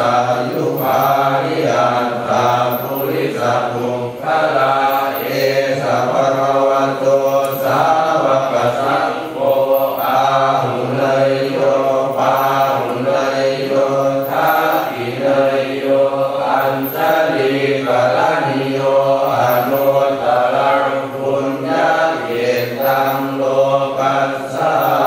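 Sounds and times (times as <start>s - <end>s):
voices chanting in monotone: 0.0s - 25.0s.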